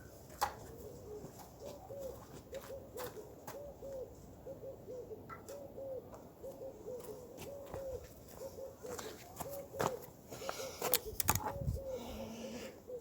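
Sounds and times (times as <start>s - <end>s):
bird cooing: 0.6s - 13.0s.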